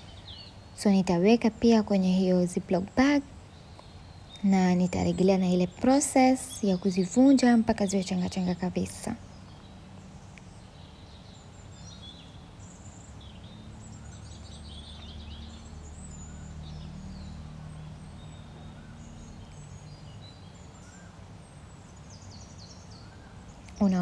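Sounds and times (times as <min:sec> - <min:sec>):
low background hum: 0:00.0 - 0:24.0
small birds chirping: 0:00.0 - 0:24.0.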